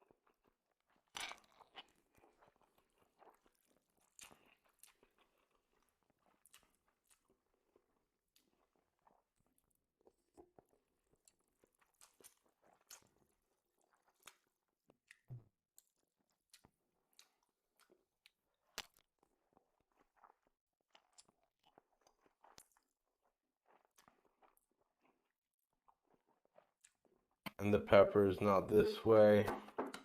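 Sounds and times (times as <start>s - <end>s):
chewing and crunching food: 0.0s - 27.9s.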